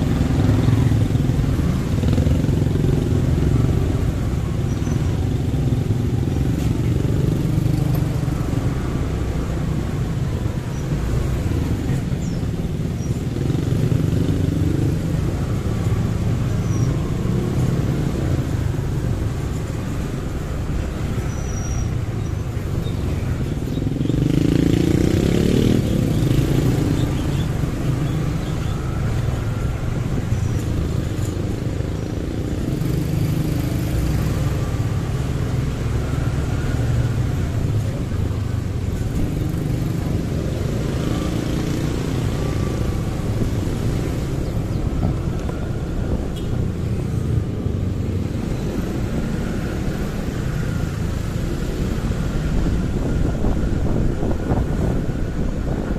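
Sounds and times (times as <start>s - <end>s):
motorcycle engine rumble: 0.0s - 55.9s
traffic noise: 0.0s - 55.9s.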